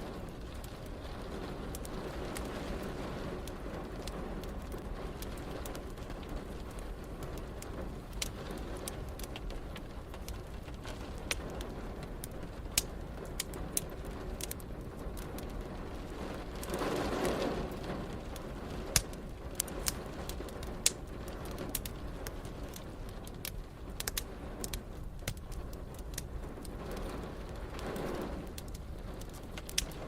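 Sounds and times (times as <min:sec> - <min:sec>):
rain hissing: 0:00.0 - 0:30.0
wood fire crackling and popping: 0:00.0 - 0:30.0.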